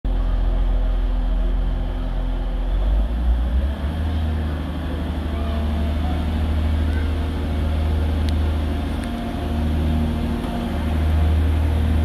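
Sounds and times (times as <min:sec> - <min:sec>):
train diesel engines droning: 0:00.1 - 0:12.0.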